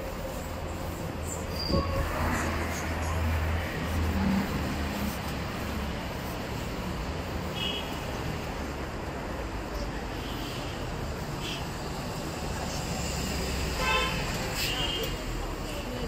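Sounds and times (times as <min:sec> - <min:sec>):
passing vehicles: 0:00.0 - 0:16.0.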